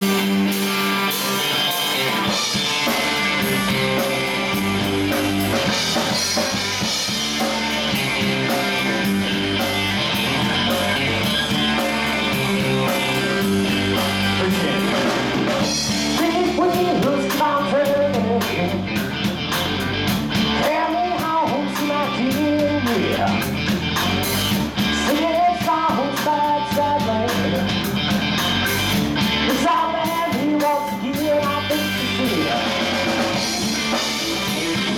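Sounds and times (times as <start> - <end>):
bending guitar melody: 0.0 - 34.9
live rock band playing: 0.0 - 34.9.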